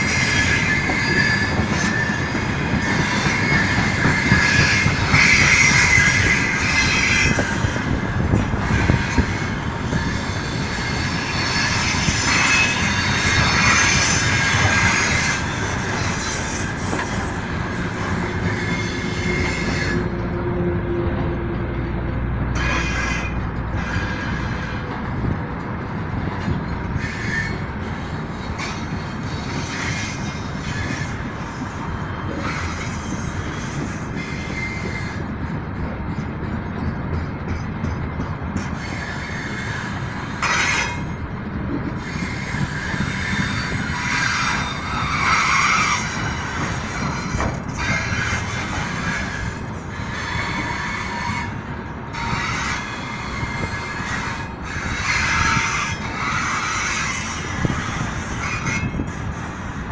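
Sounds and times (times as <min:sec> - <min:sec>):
train wheels squealing on rails: 0:00.0 - 0:59.9.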